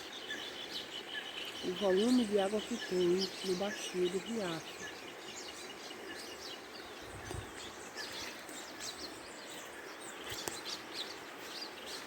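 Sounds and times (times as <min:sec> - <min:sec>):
small birds chirping and twittering: 0:00.0 - 0:12.0
steady background hiss: 0:00.0 - 0:12.0.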